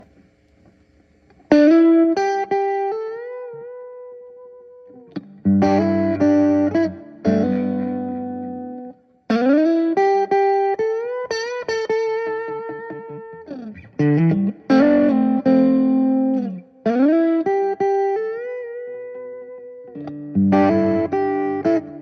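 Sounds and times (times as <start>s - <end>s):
overdriven electric guitar licks: 0.0s - 22.0s
strummed guitar chords: 1.5s - 22.0s.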